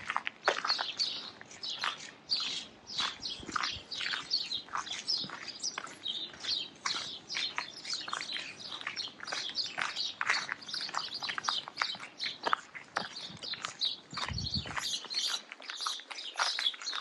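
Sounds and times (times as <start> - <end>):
footsteps crunching on snow: 0.0 - 17.0.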